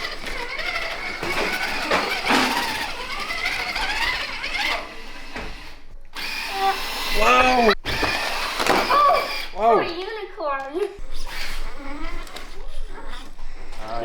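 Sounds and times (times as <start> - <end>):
small electric motor whining: 0.0 - 10.2, 11.0 - 14.0.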